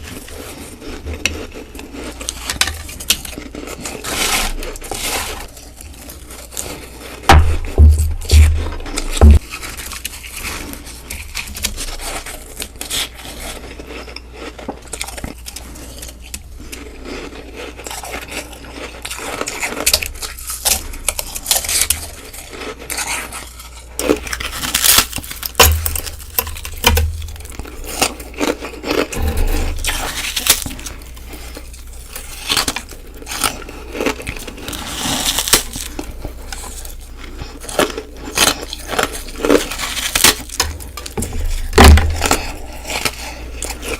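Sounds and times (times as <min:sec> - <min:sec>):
ice being chewed: 0:00.0 - 0:43.9.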